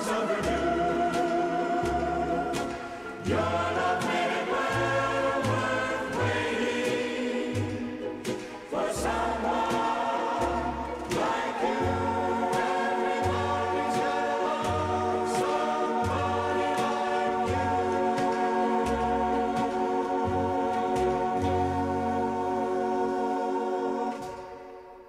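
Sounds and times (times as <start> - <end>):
choir singing sustained chords: 0.0 - 25.0
instrumental accompaniment: 0.0 - 25.0.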